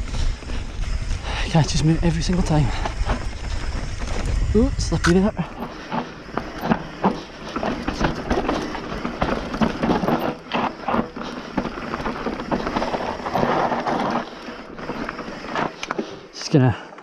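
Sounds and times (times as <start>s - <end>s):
tyres rolling over dirt: 0.0s - 16.8s.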